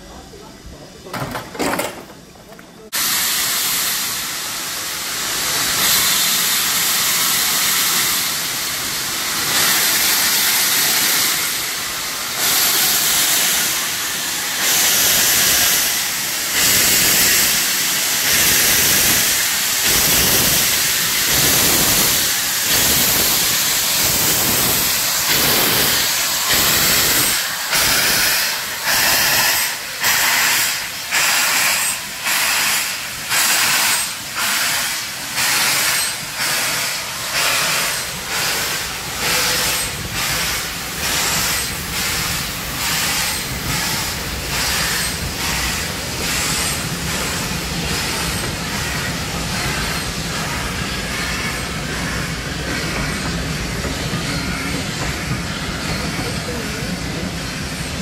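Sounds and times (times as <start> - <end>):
loud hiss of steam: 0.0 - 58.0
steam locomotive exhaust beats: 2.1 - 58.0.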